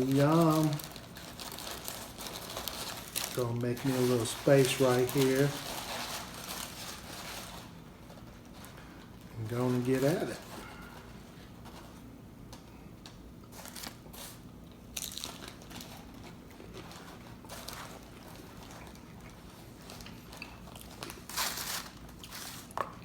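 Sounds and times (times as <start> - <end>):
crunchy taco shells crunching: 0.0 - 11.0, 13.4 - 23.0.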